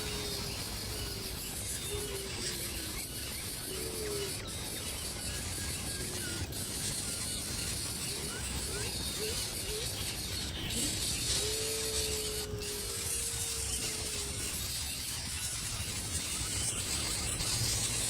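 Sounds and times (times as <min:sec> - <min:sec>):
faint bird chirps: 0:00.0 - 0:18.0
steady outdoor hiss: 0:00.0 - 0:18.0.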